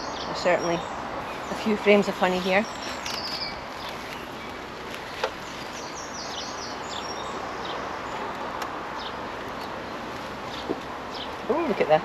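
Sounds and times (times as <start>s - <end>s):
birds chirping: 0.0s - 12.0s
honeybees humming: 0.0s - 12.0s.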